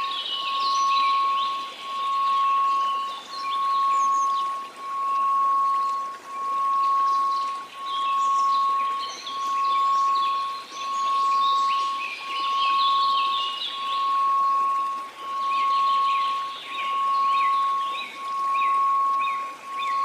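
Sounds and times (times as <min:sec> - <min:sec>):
high chirping: 0:00.0 - 0:20.0
sine tone: 0:00.0 - 0:20.0
white noise: 0:00.0 - 0:20.0.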